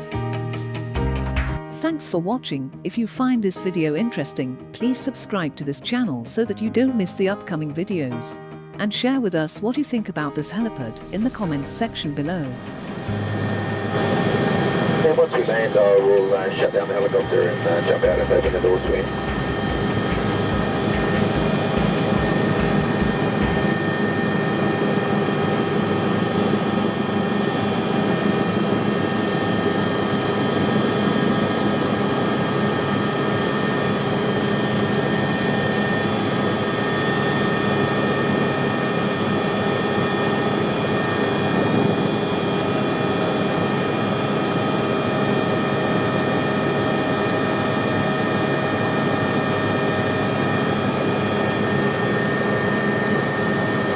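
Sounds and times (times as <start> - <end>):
helicopter turbine whine and rotor: 10.2 - 53.9.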